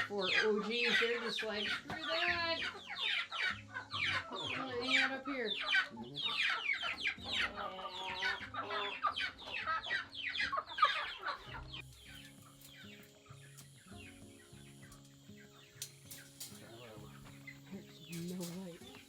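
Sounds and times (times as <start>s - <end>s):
chickens calling: 0.0s - 19.0s
soft background music: 0.0s - 19.0s.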